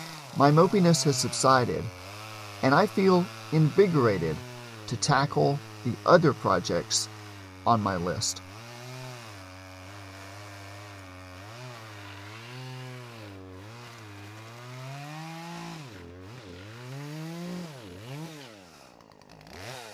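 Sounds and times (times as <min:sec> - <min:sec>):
chainsaw revving: 0:00.0 - 0:19.9.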